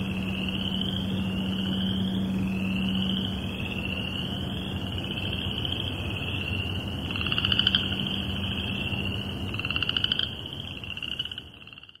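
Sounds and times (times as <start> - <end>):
frogs trilling: 0.0 - 12.0.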